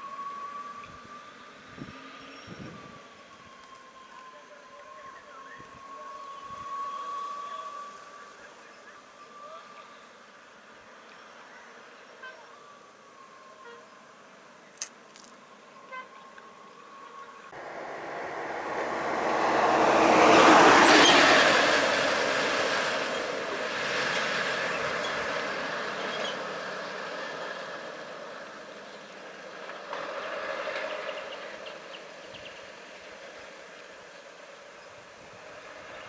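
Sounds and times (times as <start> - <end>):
road vehicles passing: 0.0 - 36.0.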